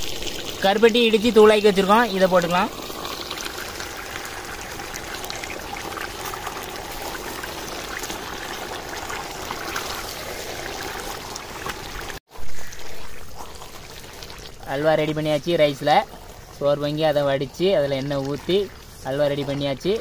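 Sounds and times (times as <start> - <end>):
rice sizzling in oil: 0.0 - 17.4.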